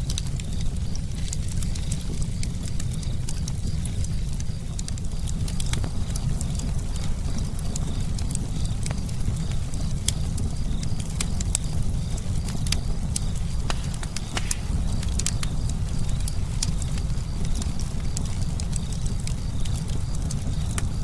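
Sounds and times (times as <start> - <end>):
campfire crackling and popping: 0.0 - 21.0
steady low rumble: 0.0 - 21.0.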